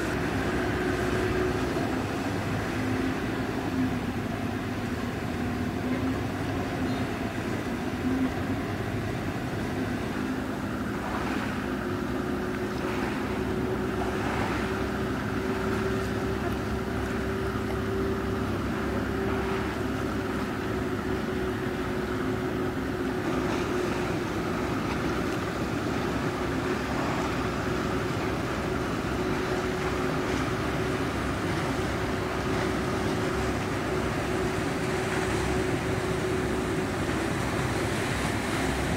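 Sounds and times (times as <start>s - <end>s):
ship engines droning: 0.0s - 38.9s
water: 0.0s - 38.9s
wind: 0.0s - 38.9s.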